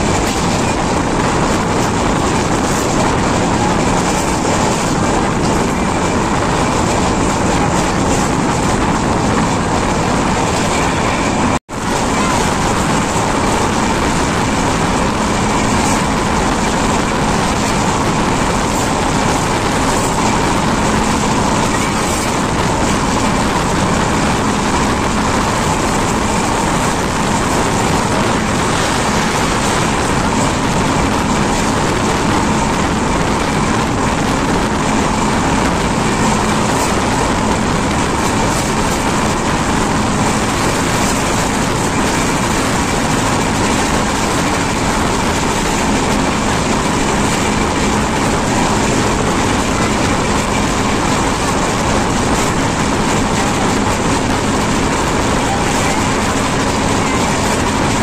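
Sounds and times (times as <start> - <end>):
rushing air: 0.0 - 58.0
train wheels on rails: 0.0 - 58.0.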